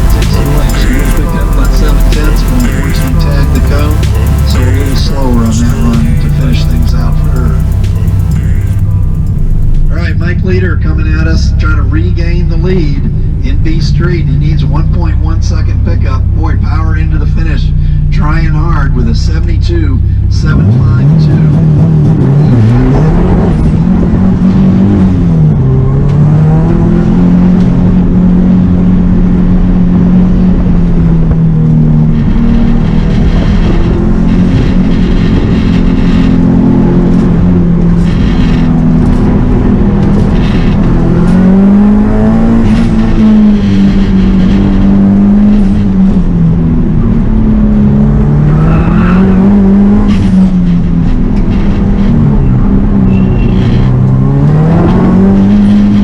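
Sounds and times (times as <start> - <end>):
car engine revving hard: 0.0 - 16.4, 17.0 - 56.0.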